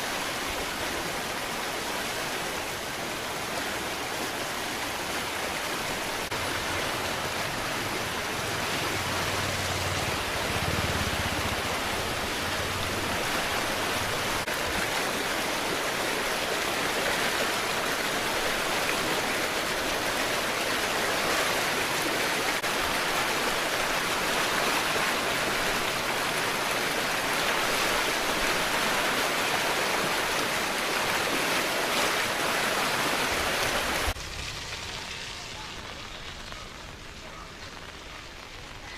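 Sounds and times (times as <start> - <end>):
rushing floodwater: 0.0 - 38.9.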